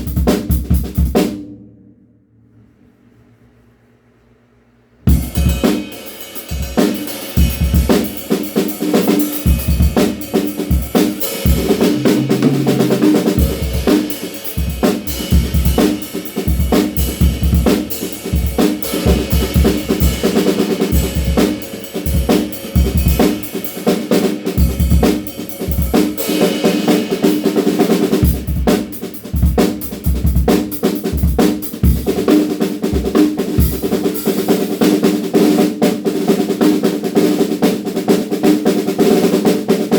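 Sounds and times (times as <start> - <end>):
drum kit groove with fills: 0.0 - 1.5, 5.1 - 39.9.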